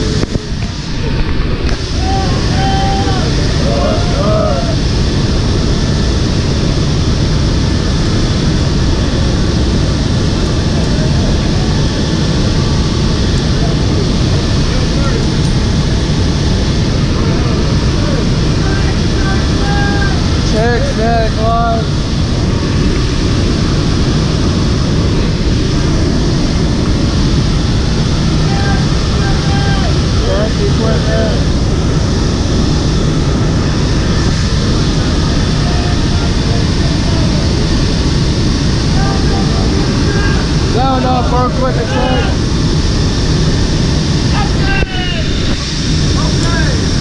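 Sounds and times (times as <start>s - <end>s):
airplane engine and airflow noise: 0.0s - 47.0s.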